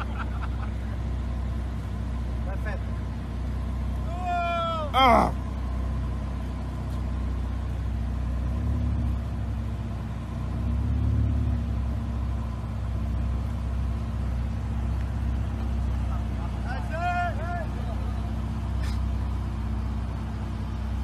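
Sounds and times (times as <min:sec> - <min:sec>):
car engine rumbling under load: 0:00.0 - 0:21.0.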